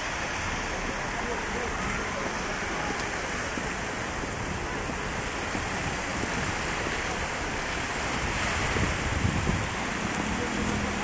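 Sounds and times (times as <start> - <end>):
river rushing in flood: 0.0 - 11.0.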